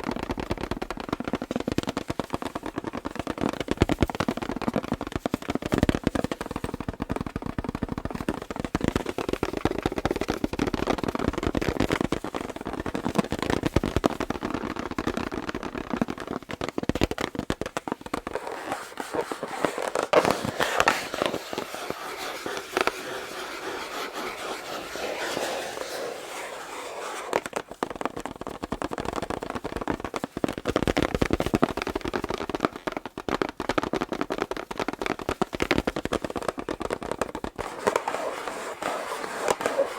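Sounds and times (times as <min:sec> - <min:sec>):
fingers tapping on a balloon: 0:00.0 - 0:39.9.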